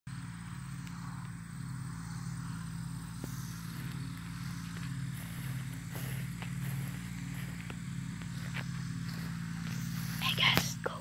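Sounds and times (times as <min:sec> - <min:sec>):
low mechanical drone: 0:00.1 - 0:11.0.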